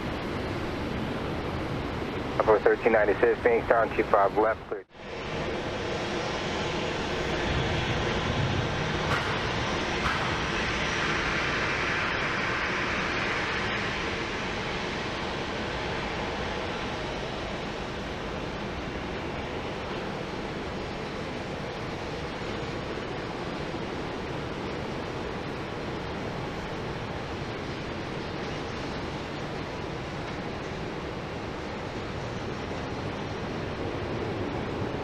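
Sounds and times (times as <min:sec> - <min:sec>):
jet airliner engine rumble: 0:00.0 - 0:35.0.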